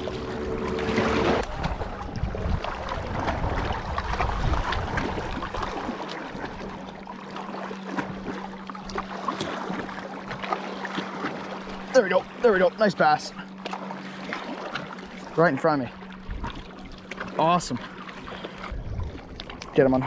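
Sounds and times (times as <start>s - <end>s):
water lapping: 0.0s - 20.0s.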